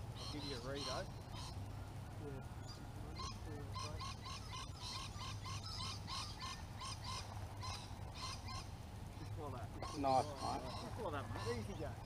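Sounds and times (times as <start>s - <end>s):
bird repeating short calls: 0.1s - 1.7s, 2.4s - 12.0s.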